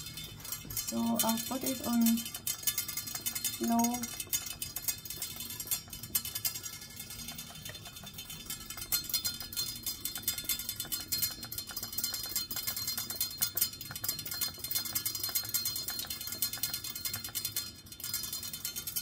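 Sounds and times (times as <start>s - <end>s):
steam valve ticking: 0.0s - 19.0s.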